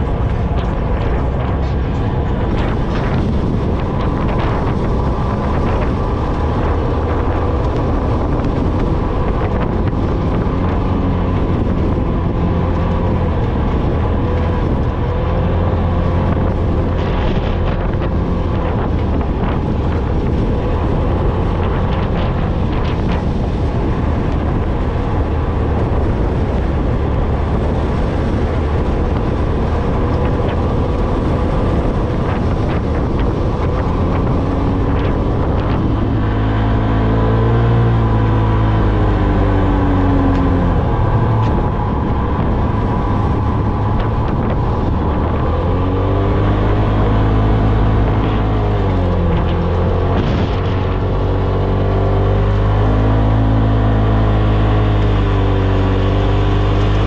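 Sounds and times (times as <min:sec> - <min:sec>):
off-road vehicle engine: 0:00.0 - 0:57.0
wind buffeting microphone: 0:00.0 - 0:57.0.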